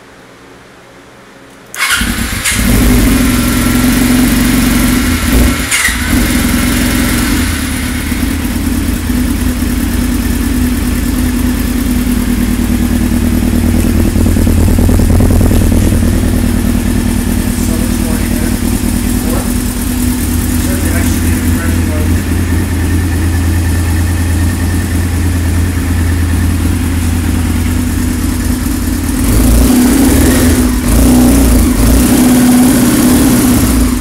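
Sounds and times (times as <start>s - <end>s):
motorcycle engine running: 1.8s - 34.0s.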